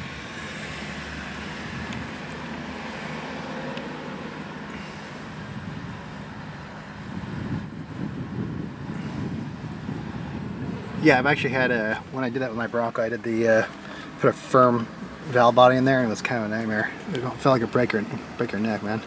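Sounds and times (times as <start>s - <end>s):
traffic noise from outside: 0.0s - 19.0s.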